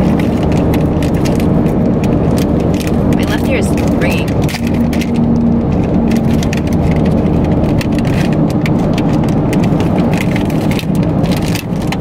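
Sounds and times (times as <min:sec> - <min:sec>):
car driving drone: 0:00.0 - 0:12.0.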